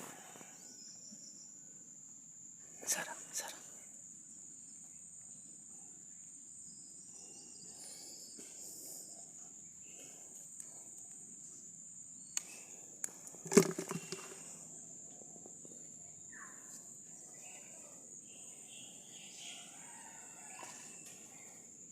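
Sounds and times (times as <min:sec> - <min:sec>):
insects chirring: 0:00.0 - 0:21.9.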